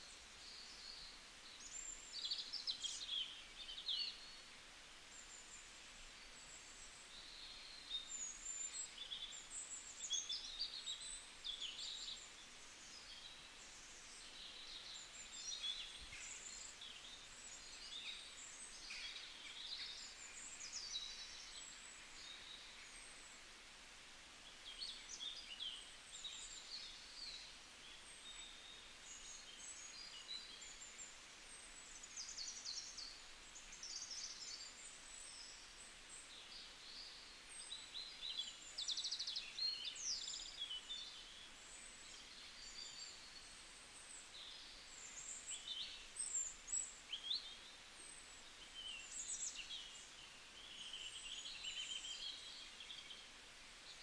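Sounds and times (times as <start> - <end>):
faint open-air hiss: 0.0 - 54.0.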